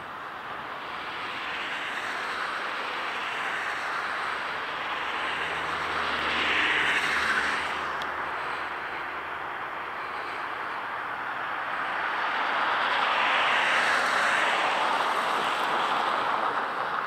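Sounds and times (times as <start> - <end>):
distant engine hum: 0.0 - 17.0
steady outdoor rushing noise: 0.0 - 17.0.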